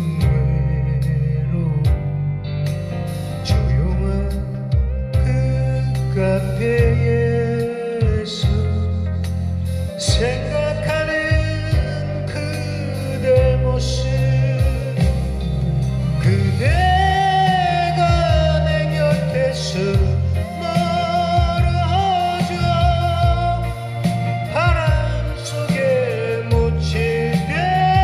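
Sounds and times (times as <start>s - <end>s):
karaoke backing track: 0.0s - 28.0s
man singing karaoke: 0.0s - 28.0s.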